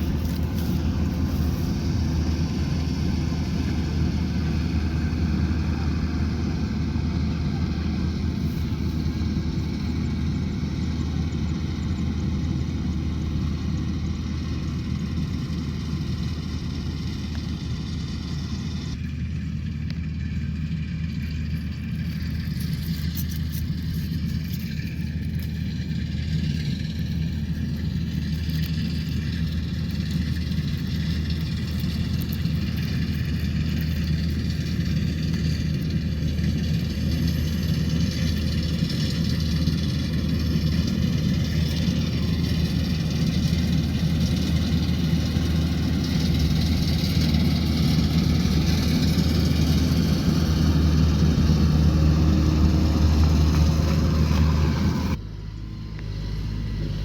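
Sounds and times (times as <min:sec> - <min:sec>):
combine harvester engine humming: 0:00.0 - 0:57.0.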